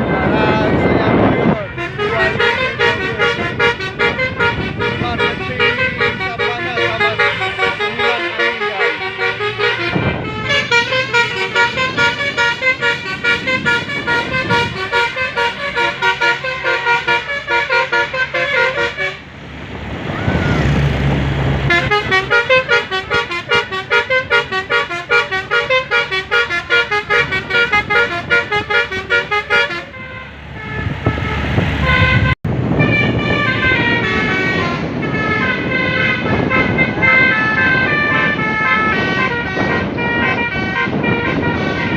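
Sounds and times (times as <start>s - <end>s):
multi-tone musical horn: 0.0s - 19.2s, 21.7s - 41.9s
engine and road noise: 0.0s - 41.9s.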